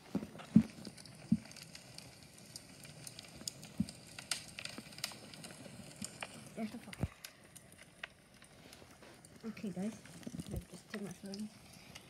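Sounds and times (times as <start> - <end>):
log fire crackling: 0.0 - 12.0.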